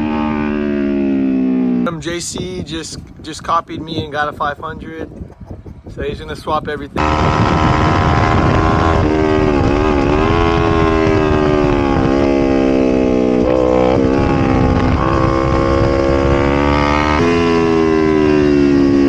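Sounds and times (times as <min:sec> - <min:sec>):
motorcycle engine revving: 0:00.0 - 0:06.0, 0:07.0 - 0:19.0.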